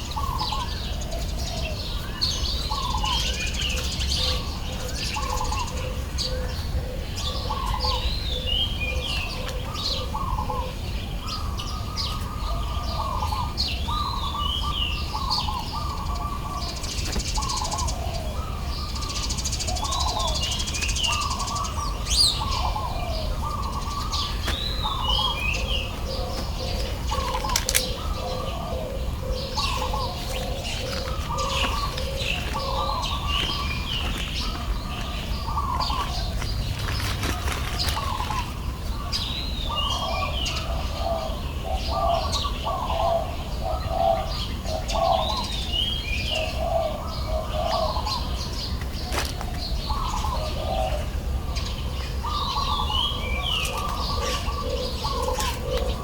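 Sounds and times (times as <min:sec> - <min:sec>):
birds chirping: 0:00.0 - 0:56.0
rapid low pulsing bird call: 0:00.0 - 0:56.0.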